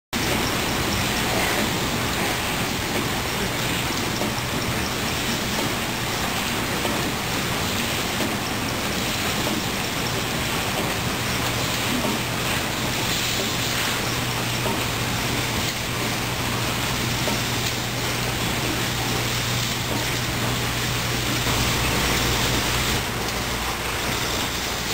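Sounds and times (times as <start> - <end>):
low machine hum: 0.2 - 24.9
machinery hiss: 0.2 - 24.9.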